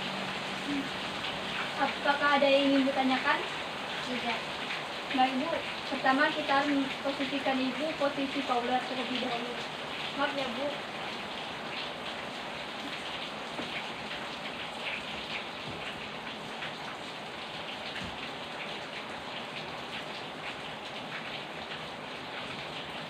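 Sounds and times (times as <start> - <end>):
steady rain patter: 0.0 - 23.0.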